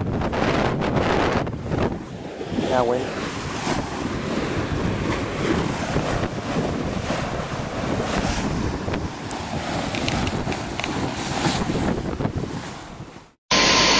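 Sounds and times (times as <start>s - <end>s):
wind buffeting microphone: 0.0s - 13.3s
sea water rushing along hull: 0.0s - 13.9s.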